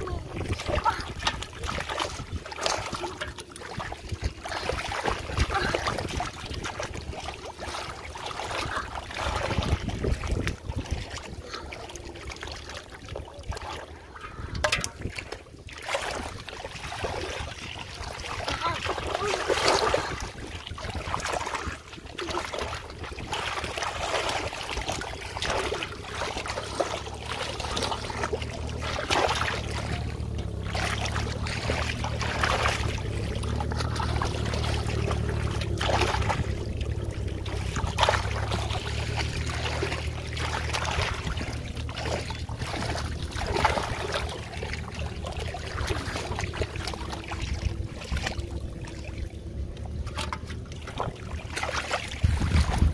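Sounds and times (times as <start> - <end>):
steady low rumble: 0.0 - 52.9
water splashing in floodwater: 0.0 - 52.9.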